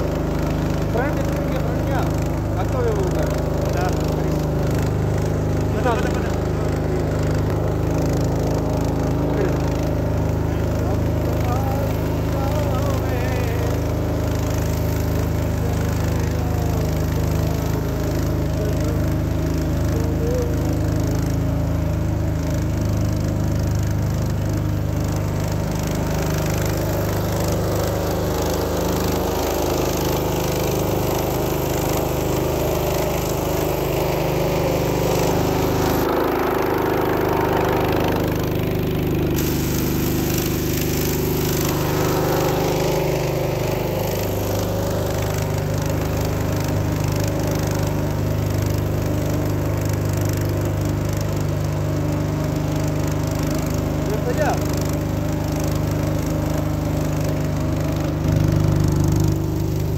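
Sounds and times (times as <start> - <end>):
motorboat engine drone: 0.0 - 59.9.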